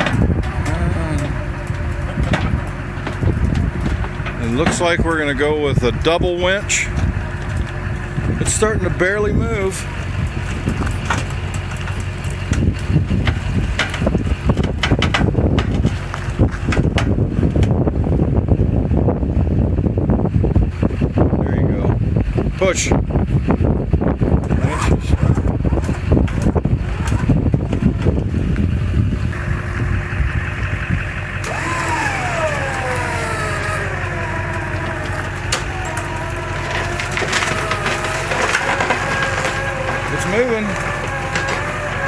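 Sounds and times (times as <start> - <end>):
low motor hum: 0.0 - 42.0
low winch rumble with knocks: 0.0 - 42.0.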